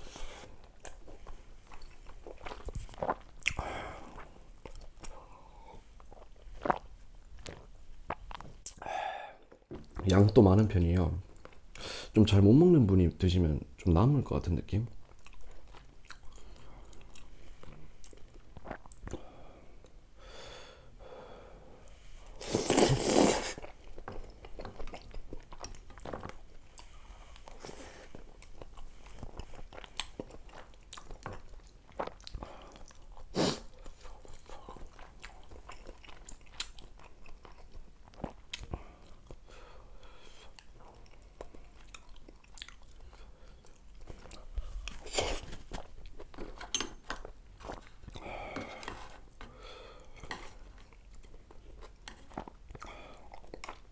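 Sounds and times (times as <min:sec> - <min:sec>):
person chewing food: 0:00.0 - 0:10.4, 0:15.0 - 0:20.0, 0:21.8 - 0:53.9.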